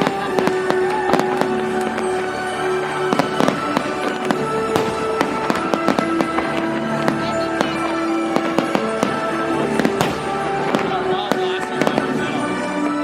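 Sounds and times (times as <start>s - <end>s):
fireworks bangs and crackles: 0.0s - 13.0s
music with long held notes: 0.0s - 13.0s.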